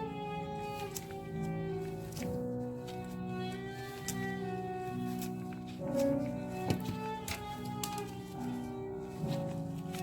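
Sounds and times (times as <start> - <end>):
background music sustained notes: 0.0 - 10.0.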